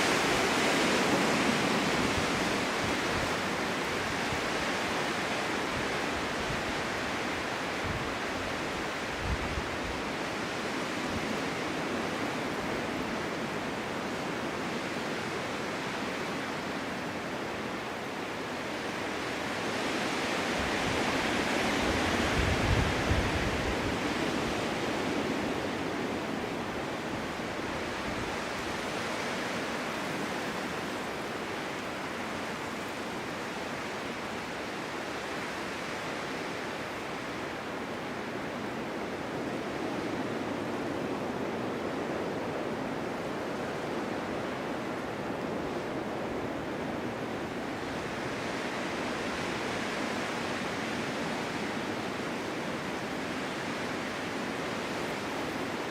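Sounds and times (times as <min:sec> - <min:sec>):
snowstorm wind rushing: 0:00.0 - 0:55.9.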